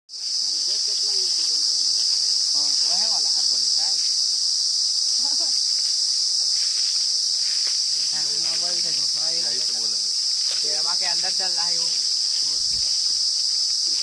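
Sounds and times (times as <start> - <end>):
insect shrill trill: 0.1 - 14.0.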